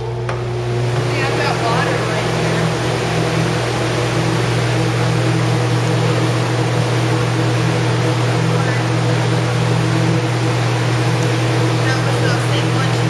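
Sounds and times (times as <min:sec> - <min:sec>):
blower fan rushing air: 0:00.0 - 0:13.0
low motor hum: 0:00.0 - 0:13.0.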